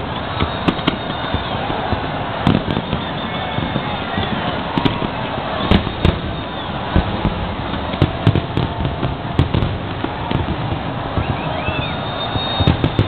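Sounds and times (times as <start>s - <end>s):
fireworks booms and cracks: 0.0s - 13.0s.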